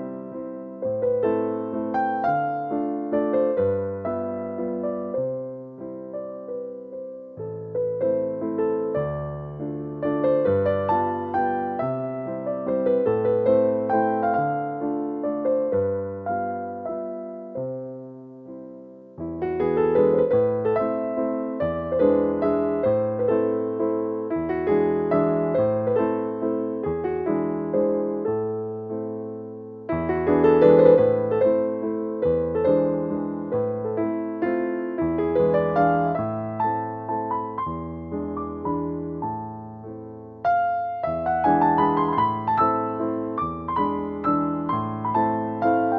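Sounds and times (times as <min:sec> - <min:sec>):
electric piano playing: 0:00.0 - 0:45.9.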